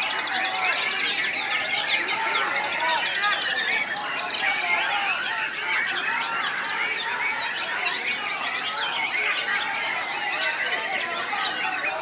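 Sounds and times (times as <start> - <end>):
many songbirds singing: 0.0 - 12.0.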